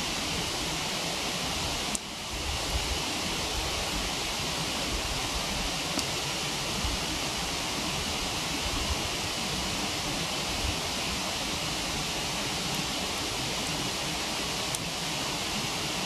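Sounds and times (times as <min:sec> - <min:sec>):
faint campfire crackles: 0:00.0 - 0:16.0
waterfall rushing: 0:00.0 - 0:16.0.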